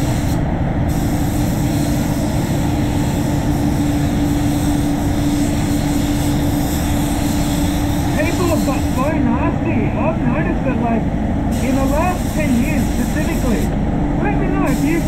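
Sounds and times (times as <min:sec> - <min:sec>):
spray gun hissing: 0:00.0 - 0:09.3, 0:11.5 - 0:15.0
spray booth air system drone: 0:00.0 - 0:15.0.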